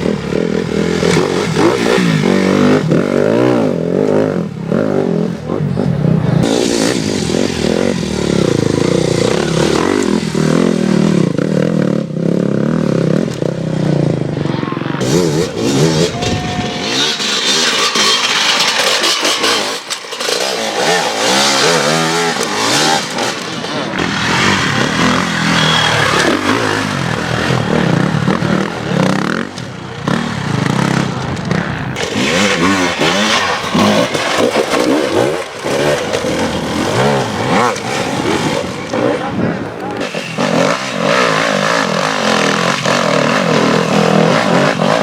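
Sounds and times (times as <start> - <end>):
motorcycle engines revving hard: 0.0 - 45.0.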